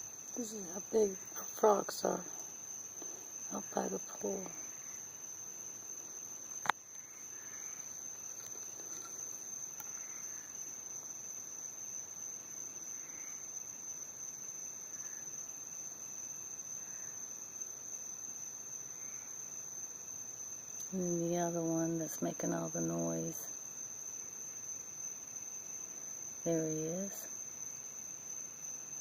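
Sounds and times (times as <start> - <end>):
high-pitched insect trill: 0.0 - 29.0.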